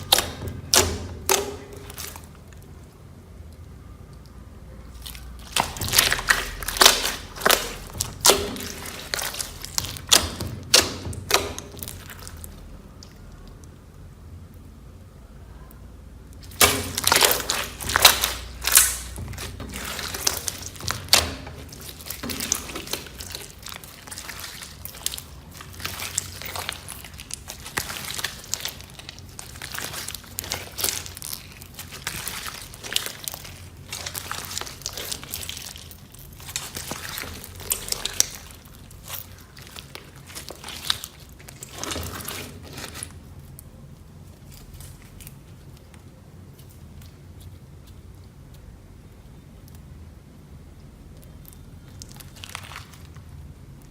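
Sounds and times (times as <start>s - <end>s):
slime squished by hand: 0.0s - 14.1s, 16.2s - 49.9s, 51.0s - 53.9s.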